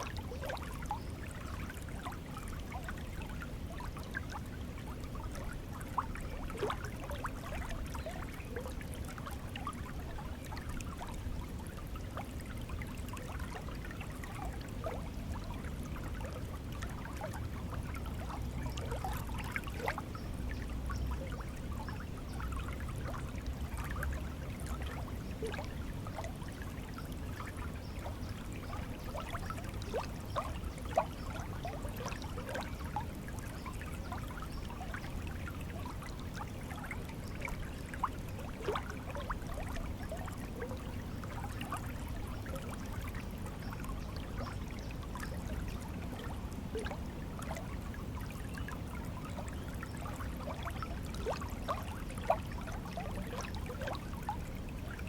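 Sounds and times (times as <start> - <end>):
stream of water trickling: 0.0 - 55.0.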